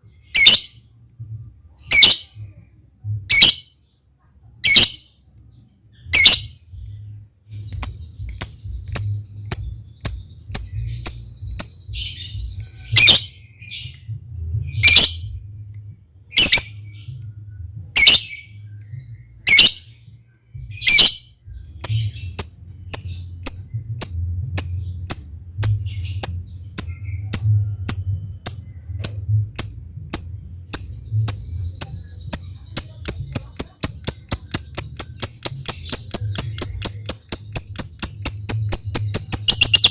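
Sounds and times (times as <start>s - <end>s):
lovebird chirping: 0.1s - 0.8s, 1.8s - 2.4s, 3.3s - 3.8s, 4.6s - 39.9s.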